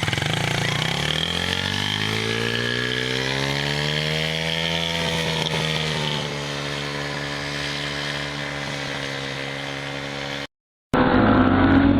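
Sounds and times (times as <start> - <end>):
small motorcycle engine revving: 0.0 - 11.9.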